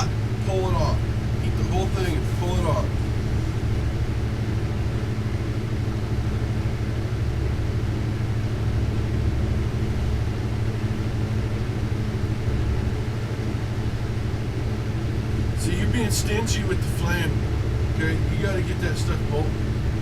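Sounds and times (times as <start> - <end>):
faint hum: 0.0 - 20.0
torch flame rumbling: 0.0 - 20.0.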